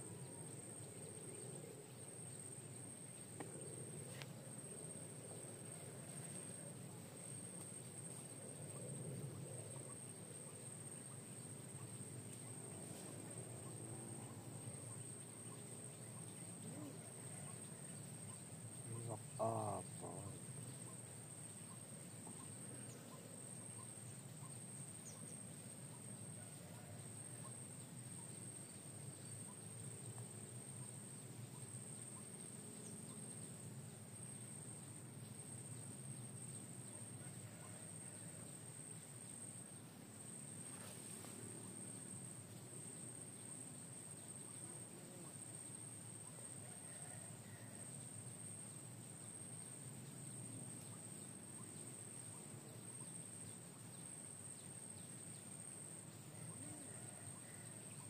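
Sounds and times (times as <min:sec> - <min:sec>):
faint bird chirps: 0:00.0 - 0:58.0
high insect drone: 0:00.0 - 0:58.0.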